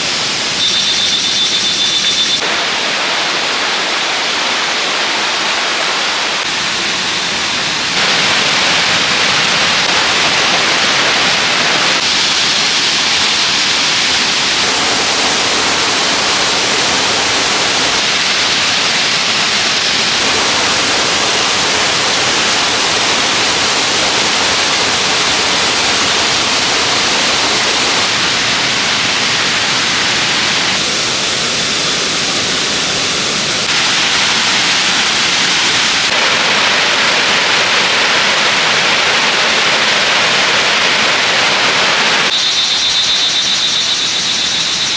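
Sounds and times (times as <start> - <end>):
stream water rushing: 2.3 - 44.9.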